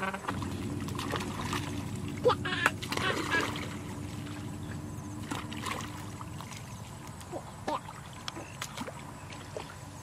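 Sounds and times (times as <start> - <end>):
steady low rumble: 0.2 - 10.0.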